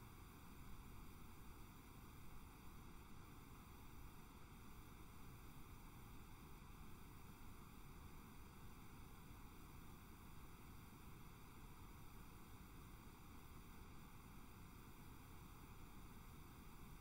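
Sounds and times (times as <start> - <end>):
faint recording hiss: 0.0 - 17.0.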